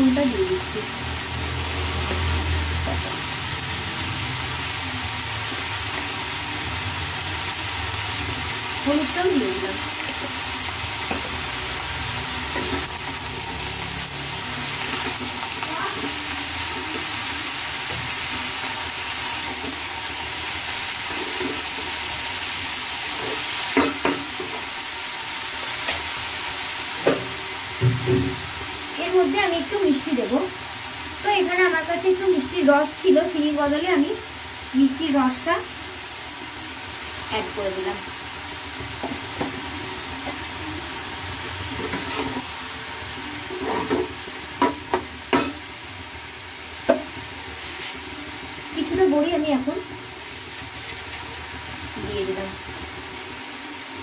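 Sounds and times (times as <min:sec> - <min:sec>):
vegetables sizzling in pan: 0:00.0 - 0:54.0.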